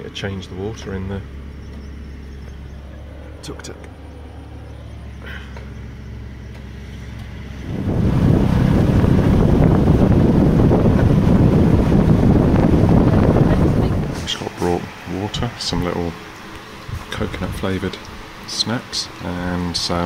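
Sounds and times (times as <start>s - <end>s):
motorbike engine droning: 0.0s - 20.0s
wind and road noise on microphone: 0.0s - 20.0s.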